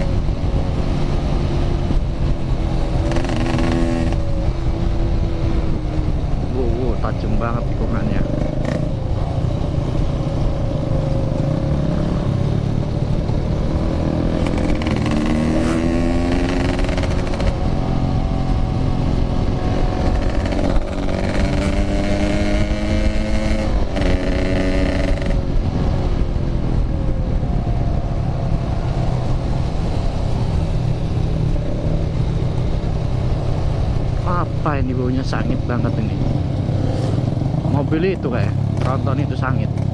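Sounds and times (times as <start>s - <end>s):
motorcycle engine revving: 0.0s - 39.9s
wind rumble on camera: 0.0s - 39.9s.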